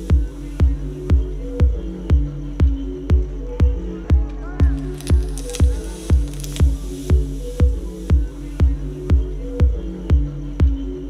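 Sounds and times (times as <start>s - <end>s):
kick drum: 0.0s - 10.9s
electronic music: 0.0s - 11.0s.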